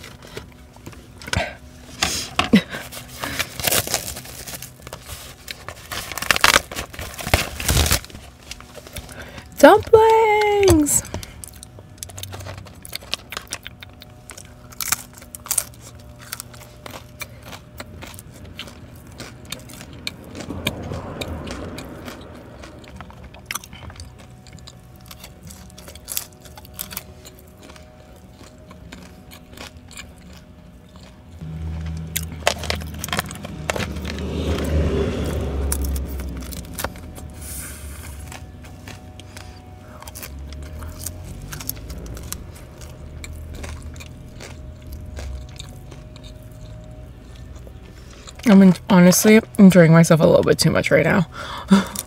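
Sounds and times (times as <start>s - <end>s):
chewing and crunching food: 0.0s - 52.0s
low hum: 0.0s - 52.0s.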